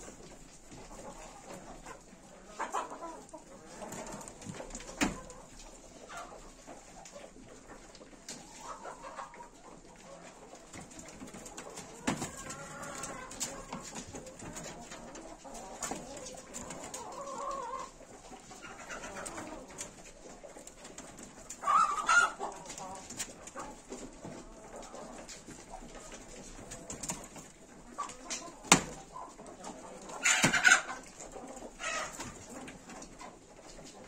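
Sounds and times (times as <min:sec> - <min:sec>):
farm birds calling: 0:00.0 - 0:34.0.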